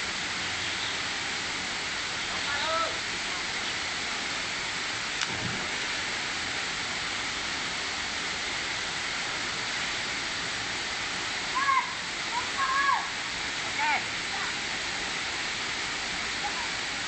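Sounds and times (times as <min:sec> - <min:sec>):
waterfall rushing into pool: 0:00.0 - 0:17.0.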